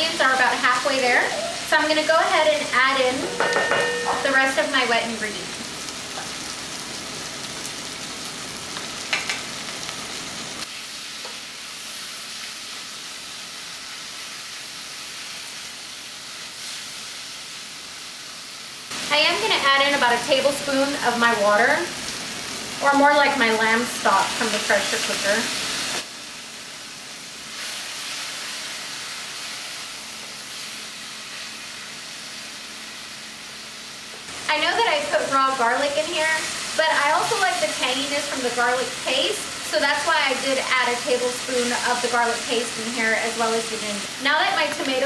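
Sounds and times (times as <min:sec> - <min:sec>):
vegetables sizzling in hot oil: 0:00.0 - 0:45.0.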